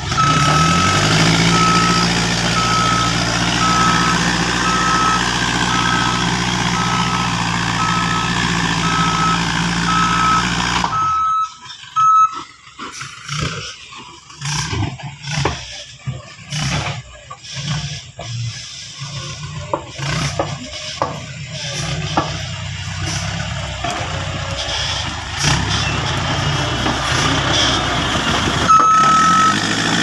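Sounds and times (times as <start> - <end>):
reversing alarm beeping: 0.0 - 13.6, 17.6 - 30.0
diesel engine revving: 0.0 - 30.0.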